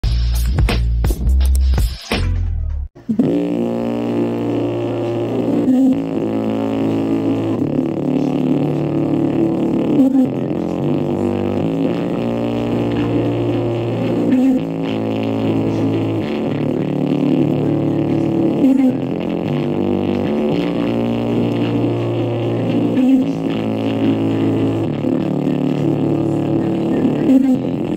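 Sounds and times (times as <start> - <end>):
distorted bass-heavy music: 0.0 - 27.9.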